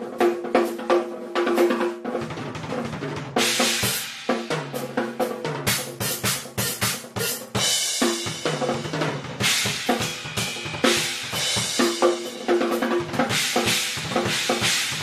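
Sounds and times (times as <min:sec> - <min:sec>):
drum kit playing: 0:00.0 - 0:15.0.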